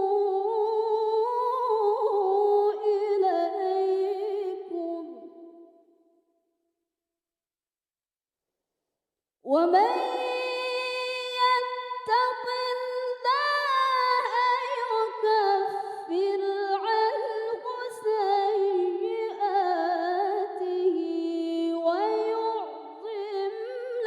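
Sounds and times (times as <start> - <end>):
woman reciting melodically: 0.0 - 5.2, 9.5 - 24.0.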